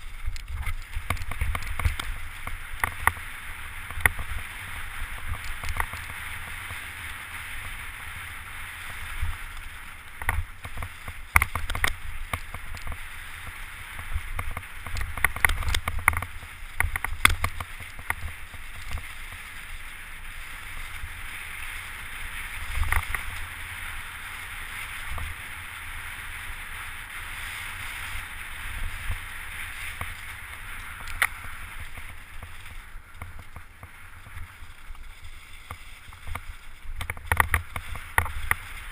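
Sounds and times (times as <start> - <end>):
bicycle tyre noise on dirt trail: 0.0 - 38.9
bike knocking and rattling on bumps: 0.0 - 38.9.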